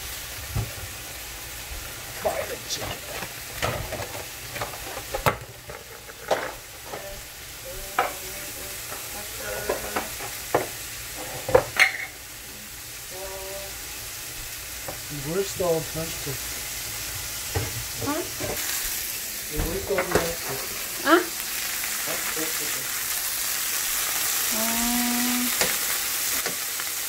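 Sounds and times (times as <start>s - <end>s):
chicken sizzling in frying pan: 0.0s - 27.0s.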